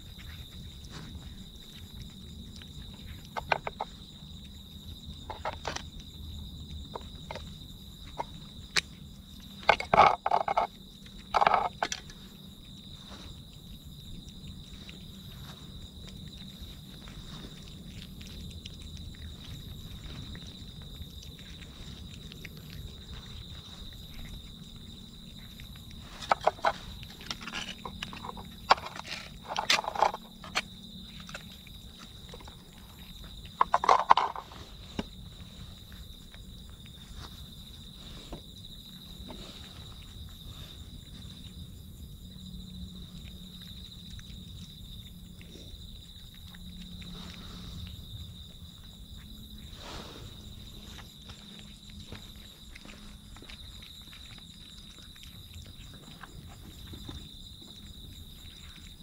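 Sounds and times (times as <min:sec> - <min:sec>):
crickets chirring: 0:00.0 - 0:59.0
kittens chewing and smacking: 0:00.0 - 0:59.0.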